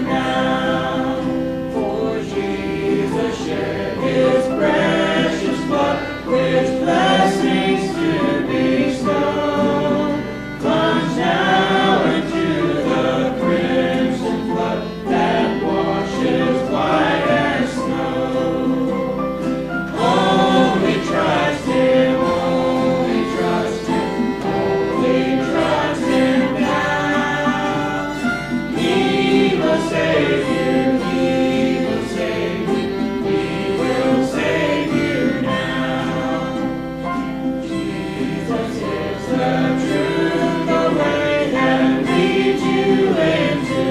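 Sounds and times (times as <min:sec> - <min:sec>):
choir singing gospel: 0:00.0 - 0:43.9
instrumental accompaniment: 0:00.0 - 0:43.9.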